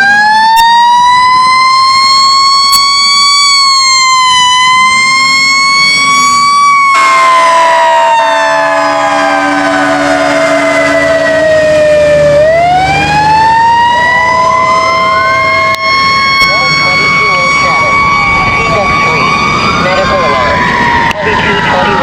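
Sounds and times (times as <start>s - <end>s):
second siren rising: 0.0s - 22.0s.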